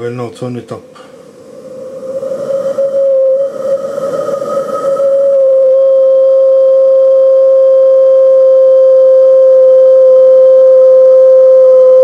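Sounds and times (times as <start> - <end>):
boiler droning tone: 0.0 - 12.0.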